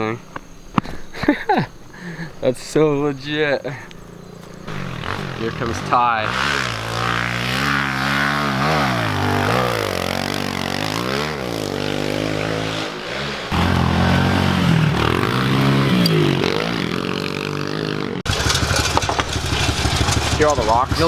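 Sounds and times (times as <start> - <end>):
pit bike engine revving: 4.0 - 21.0.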